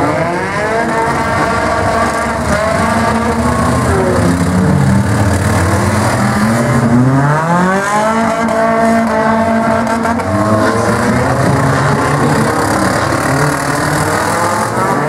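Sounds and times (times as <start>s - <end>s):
small race car engines revving: 0.0s - 15.0s.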